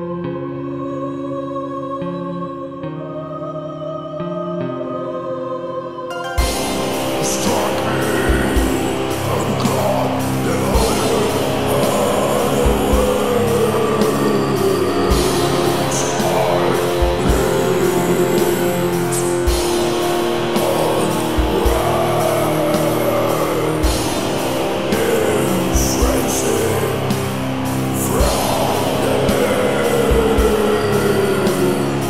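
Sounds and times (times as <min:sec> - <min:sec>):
distorted guitar chords: 0:06.3 - 0:32.0.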